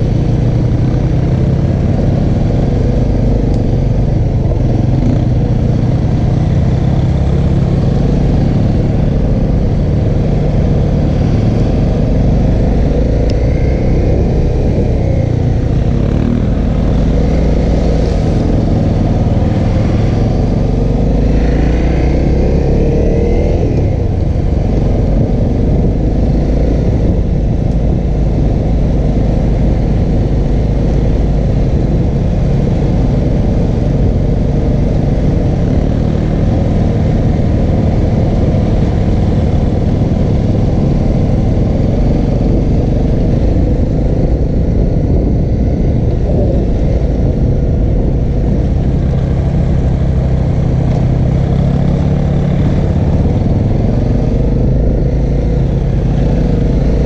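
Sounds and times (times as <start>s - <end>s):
motorcycle engine running: 0.0s - 57.0s
wind rumble on microphone: 0.0s - 57.0s.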